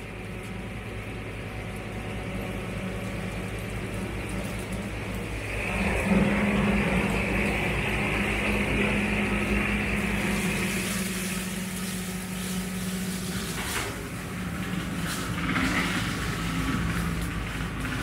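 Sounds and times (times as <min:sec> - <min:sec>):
tractor engine drone: 0:00.0 - 0:18.0.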